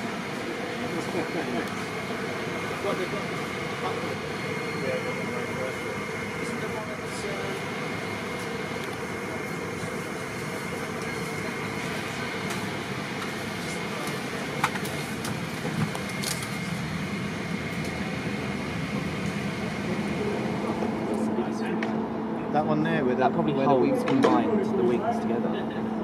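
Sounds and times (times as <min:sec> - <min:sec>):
ventilation hum and hiss: 0:00.0 - 0:26.0.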